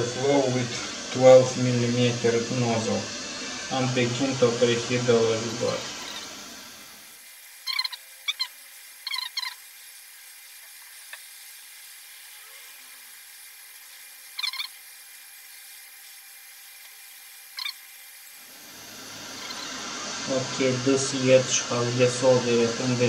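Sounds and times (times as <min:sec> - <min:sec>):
hot air station blowing hiss: 0:00.0 - 0:23.0.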